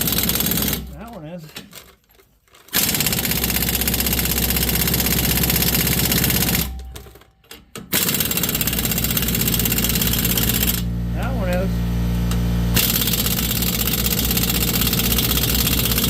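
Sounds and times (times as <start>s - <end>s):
air impact wrench hammering: 0.0s - 1.0s, 2.7s - 11.6s, 12.2s - 16.0s.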